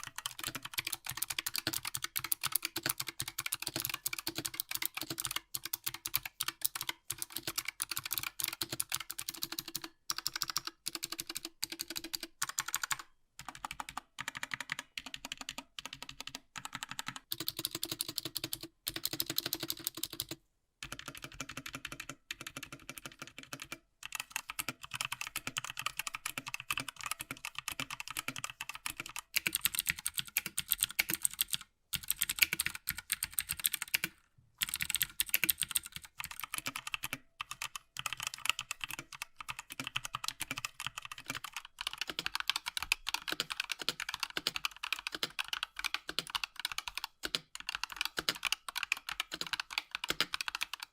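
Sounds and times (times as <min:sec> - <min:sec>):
mechanical keyboard typing: 0:00.0 - 0:50.9.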